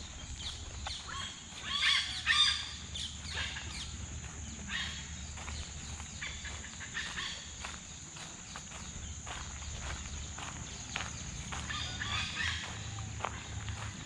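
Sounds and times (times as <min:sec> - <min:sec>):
birds calling: 0:00.0 - 0:14.0
high insect drone: 0:00.0 - 0:14.0.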